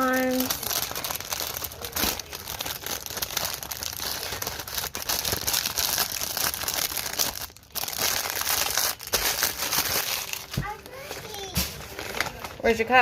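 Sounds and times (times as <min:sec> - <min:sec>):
packaging crinkling: 0:00.0 - 0:12.7.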